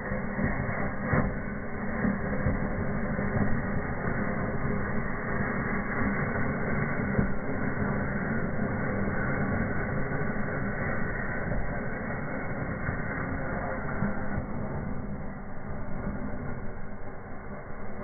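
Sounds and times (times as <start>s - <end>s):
fireworks hissing and crackling: 0.0s - 18.0s.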